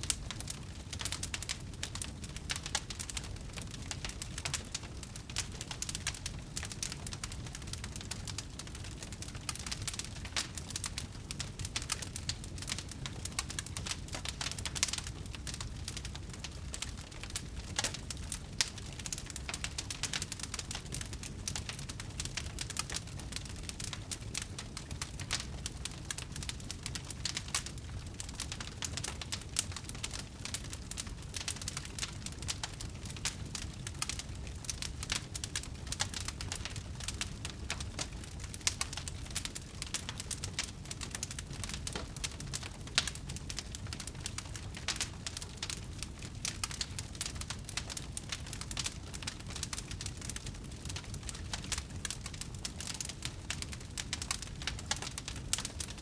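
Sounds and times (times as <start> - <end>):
low rumble of flames: 0.0 - 56.0
sharp snaps of fire: 0.0 - 56.0
wood fire crackling: 0.0 - 56.0.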